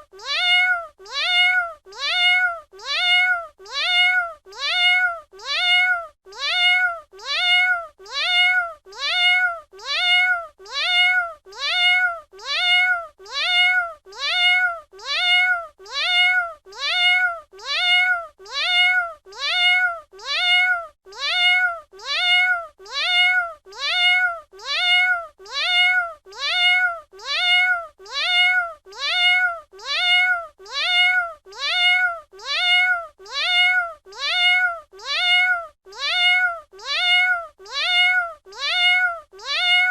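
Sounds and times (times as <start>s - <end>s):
cat meowing: 0.0s - 39.9s.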